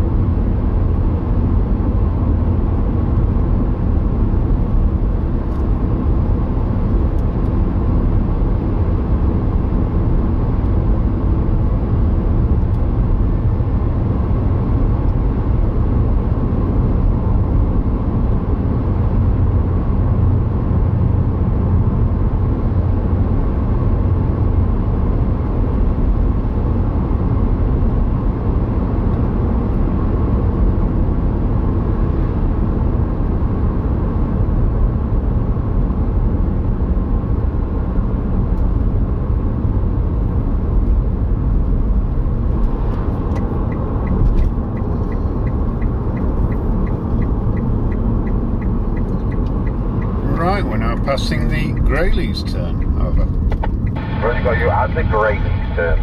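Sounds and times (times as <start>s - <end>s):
road and engine noise in car: 0.0s - 56.0s.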